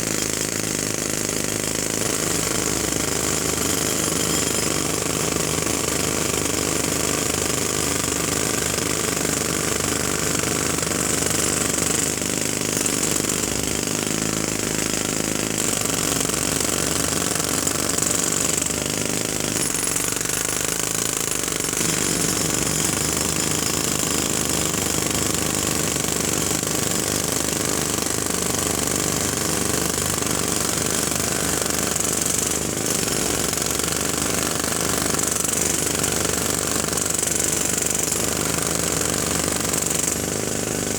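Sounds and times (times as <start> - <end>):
jackhammer hammering: 0.0 - 40.9.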